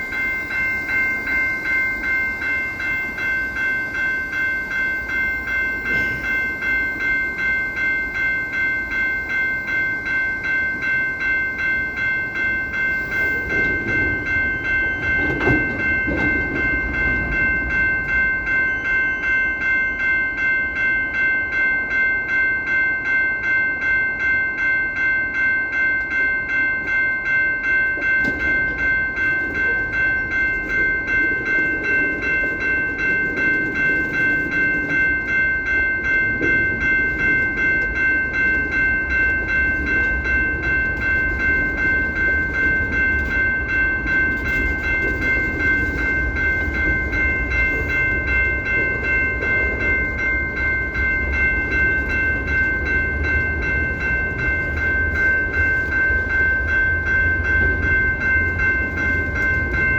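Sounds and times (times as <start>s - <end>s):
train rumble: 0.0s - 25.1s, 25.7s - 59.9s
pulsing high ringing: 0.0s - 59.9s.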